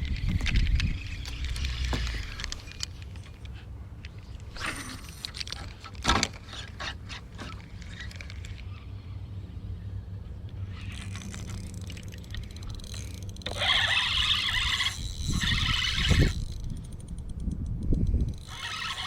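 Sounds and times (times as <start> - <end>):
boat motor humming: 1.0 - 17.4.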